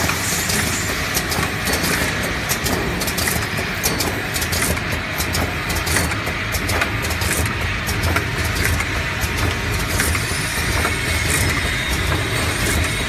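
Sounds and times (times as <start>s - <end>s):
machine clicks and clatter: 0.0s - 13.0s
machine humming: 0.0s - 13.0s.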